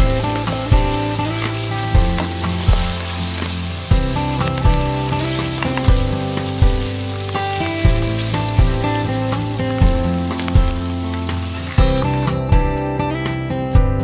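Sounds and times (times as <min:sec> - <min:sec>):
chicken sizzling in oil: 0:00.0 - 0:12.4
background music with steady beat: 0:00.0 - 0:14.0.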